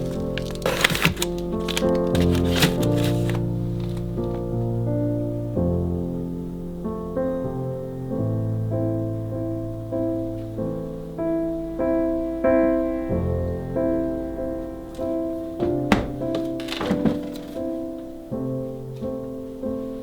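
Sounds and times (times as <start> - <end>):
soft slow piano music: 0.0 - 20.0.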